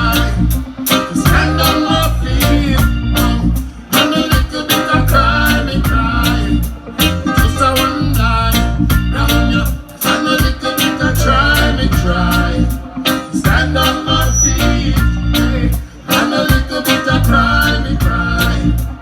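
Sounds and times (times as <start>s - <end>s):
reggae band playing: 0.0s - 19.0s.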